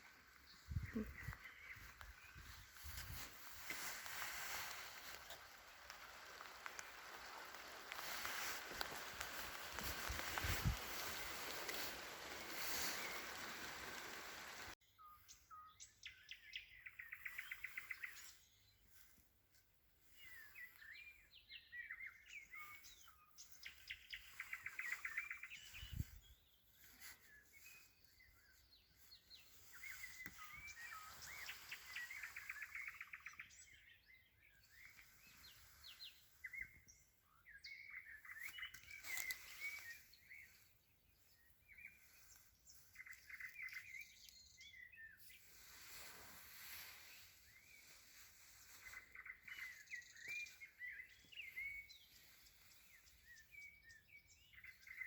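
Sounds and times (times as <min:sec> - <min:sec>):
songbirds singing faintly: 0:00.0 - 0:55.0.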